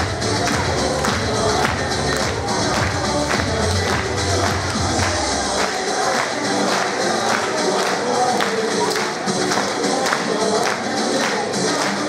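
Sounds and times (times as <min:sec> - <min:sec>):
dance music with steady beat: 0:00.0 - 0:12.0.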